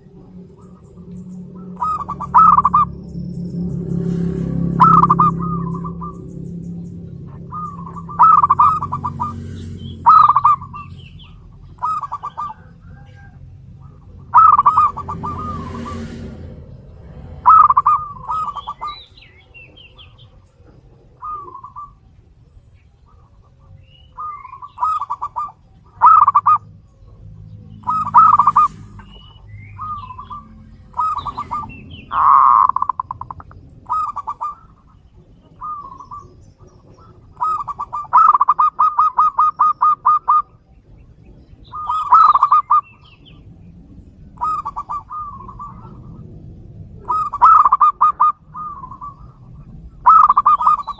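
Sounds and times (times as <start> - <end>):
doves cooing: 0.0 - 50.9
small birds chirping: 0.0 - 50.9.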